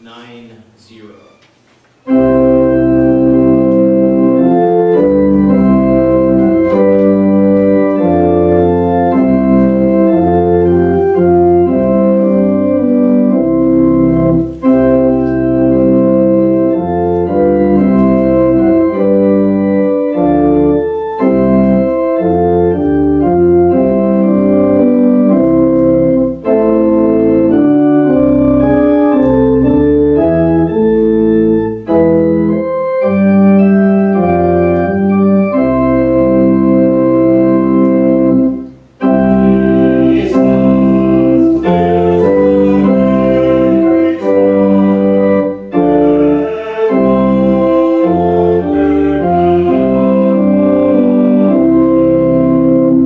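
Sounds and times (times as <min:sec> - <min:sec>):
organ playing hymn chords: 0:02.0 - 0:53.0.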